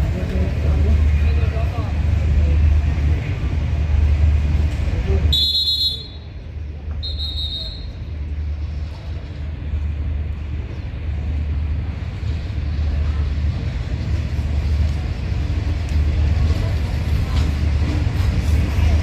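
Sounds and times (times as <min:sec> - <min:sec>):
locomotive idling: 0:00.0 - 0:19.0.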